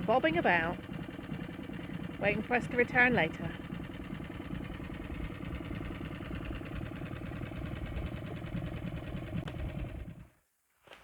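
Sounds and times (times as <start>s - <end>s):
outboard motor buzzing: 0.0s - 10.3s.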